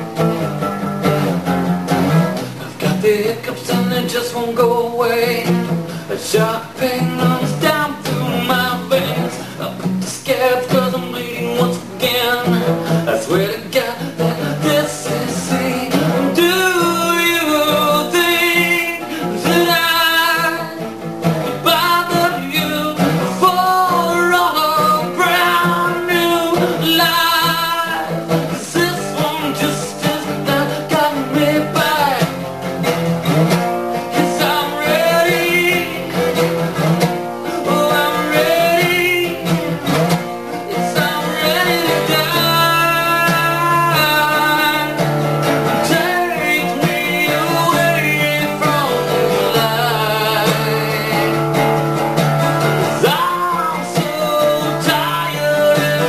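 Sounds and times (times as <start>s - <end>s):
acoustic guitar: 0.0s - 56.0s
person singing: 2.4s - 32.4s, 33.4s - 56.0s.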